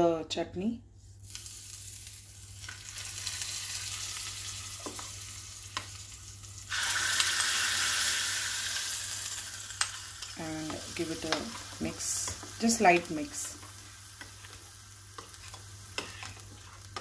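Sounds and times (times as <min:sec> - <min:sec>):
hot oil sizzling: 0:01.2 - 0:17.0.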